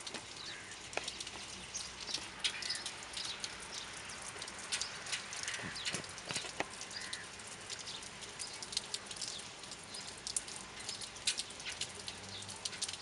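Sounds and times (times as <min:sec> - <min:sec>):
drops ticking close by: 0:00.0 - 0:13.0
rain on wet pavement: 0:00.0 - 0:13.0.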